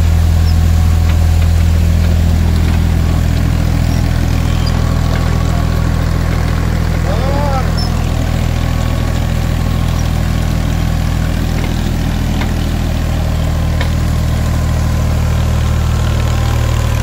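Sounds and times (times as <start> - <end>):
machinery clicking: 0.0 - 14.8
machine engine humming: 0.0 - 17.0.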